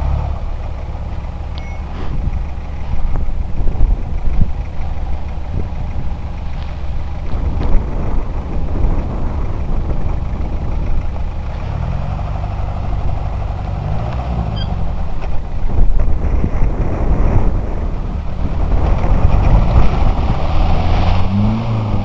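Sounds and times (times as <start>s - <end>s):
engine labouring: 0.0s - 22.0s
heavy low rumble: 0.0s - 22.0s.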